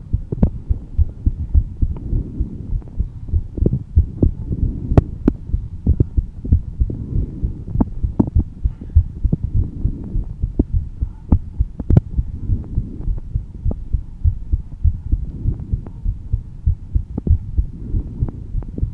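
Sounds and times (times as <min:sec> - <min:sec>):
heartbeat thumps: 0:00.0 - 0:18.9.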